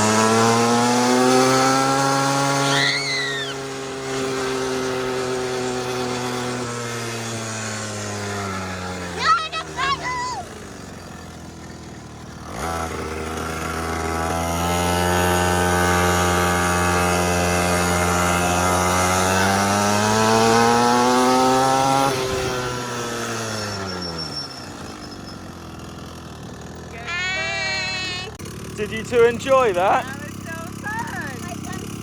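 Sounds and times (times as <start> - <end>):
quad bike engine revving: 0.0 - 32.0.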